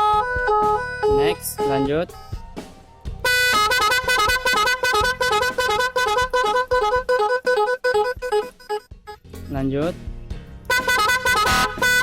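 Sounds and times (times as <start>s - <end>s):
two-tone electronic horn: 0.0s - 2.4s, 3.2s - 9.3s, 10.7s - 12.0s.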